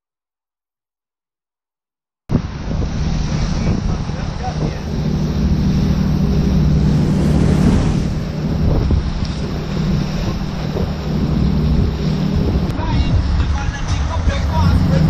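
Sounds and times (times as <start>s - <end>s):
water rushing along hull: 2.3s - 15.0s
wind buffeting microphone: 2.3s - 15.0s
outboard engine running: 2.4s - 15.0s.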